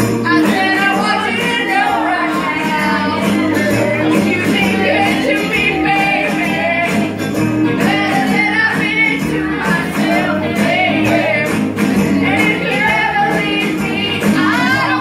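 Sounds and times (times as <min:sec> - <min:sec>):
group singing into microphones: 0:00.0 - 0:15.0.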